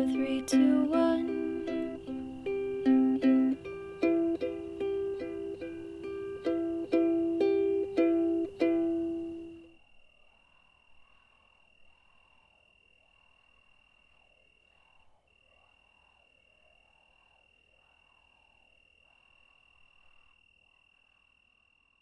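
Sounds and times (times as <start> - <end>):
soft hiss: 0.0 - 20.7
cricket trill: 0.0 - 22.0.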